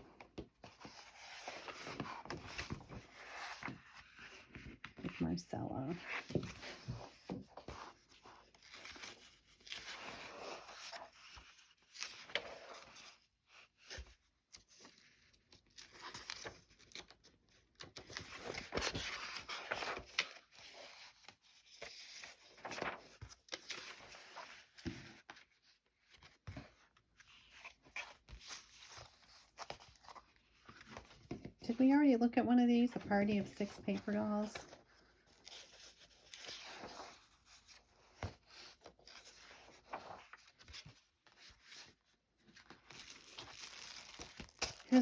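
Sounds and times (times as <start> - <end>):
paper rustling and crinkling: 0.0 - 5.2, 5.9 - 31.7, 32.8 - 45.0.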